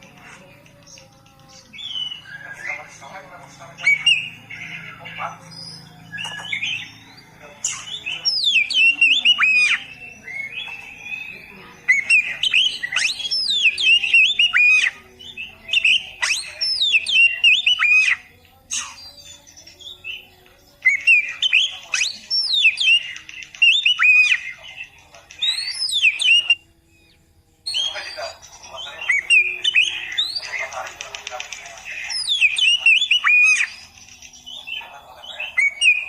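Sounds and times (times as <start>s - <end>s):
bird singing whistled notes: 0.9s - 3.2s, 3.8s - 30.9s, 31.9s - 36.0s.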